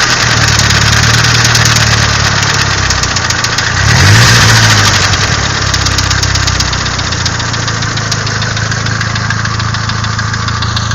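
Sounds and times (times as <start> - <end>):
car engine knocking: 0.0 - 10.9.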